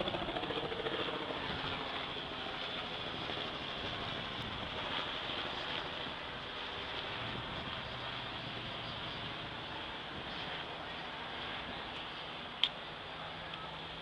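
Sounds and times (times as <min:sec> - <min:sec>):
helicopter rotor: 0:00.0 - 0:14.0.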